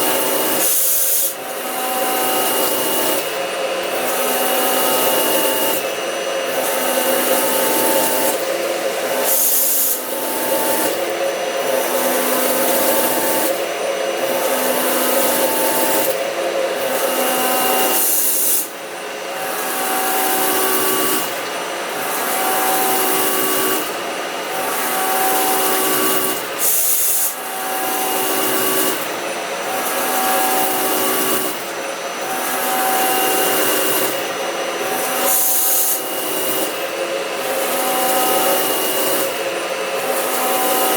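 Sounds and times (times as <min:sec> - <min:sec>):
machine tool cutting metal: 0:00.0 - 0:40.9.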